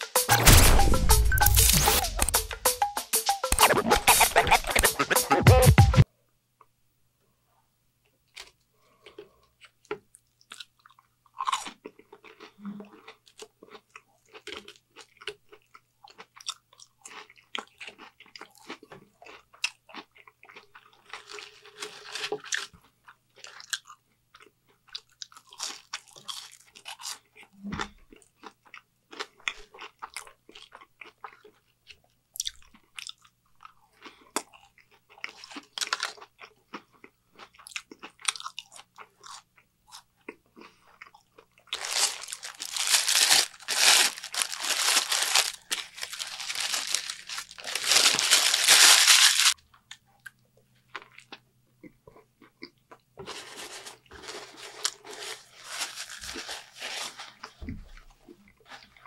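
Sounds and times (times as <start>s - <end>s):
crunching and chewing fries: 8.3s - 59.0s.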